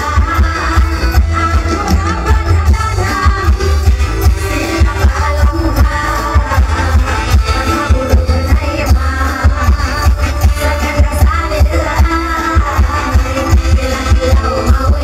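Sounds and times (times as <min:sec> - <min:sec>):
live band music with bass beat: 0:00.0 - 0:15.0
women singing into microphones: 0:00.0 - 0:15.0.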